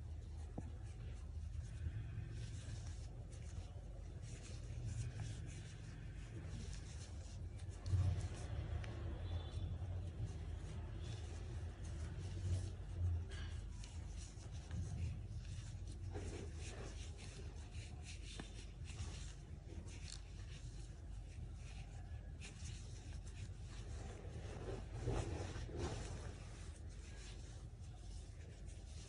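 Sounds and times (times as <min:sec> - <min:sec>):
crochet hook scratching yarn: 0:00.0 - 0:29.0
low steady hum: 0:00.0 - 0:29.0.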